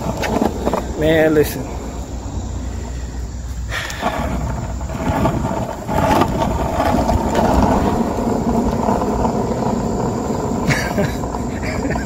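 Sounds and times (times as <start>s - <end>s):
skateboard wheels rolling on pavement: 0.0s - 12.0s.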